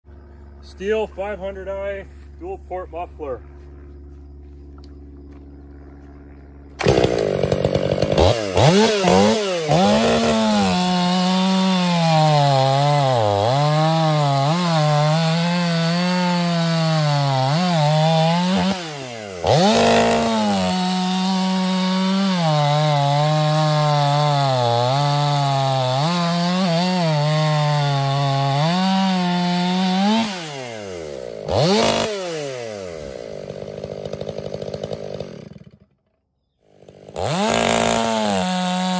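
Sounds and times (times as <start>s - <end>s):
chainsaw cutting a log: 6.8s - 38.9s.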